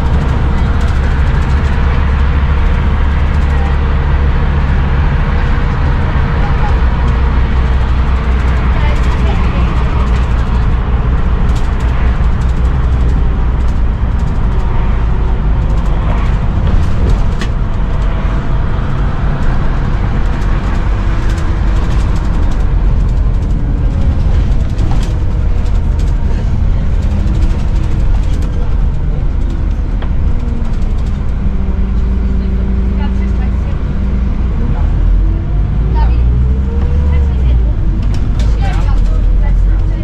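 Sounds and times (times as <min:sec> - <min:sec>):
bus engine rumble: 0:00.0 - 0:40.0.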